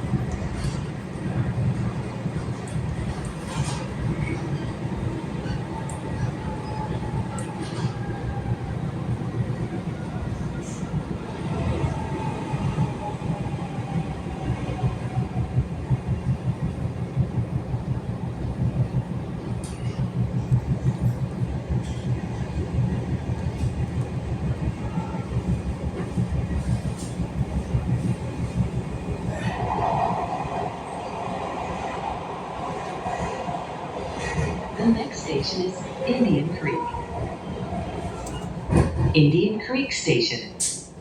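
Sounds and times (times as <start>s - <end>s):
train wheels rumbling: 0.0s - 39.6s.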